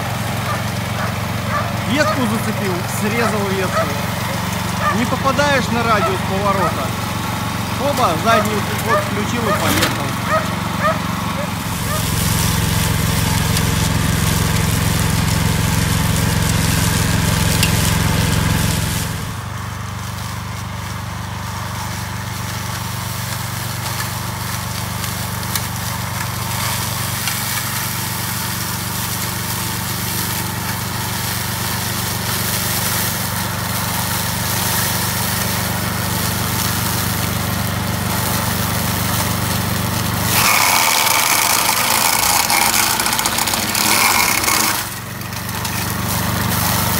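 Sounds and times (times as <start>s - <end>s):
mower chopping dry stalks: 0.0s - 46.9s
mower engine running under load: 0.0s - 46.9s.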